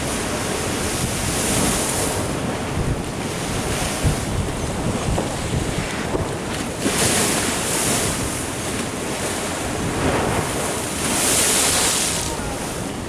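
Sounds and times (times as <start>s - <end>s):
ocean surf washing in: 0.0s - 13.0s
wind rumbling on microphone: 0.0s - 13.0s.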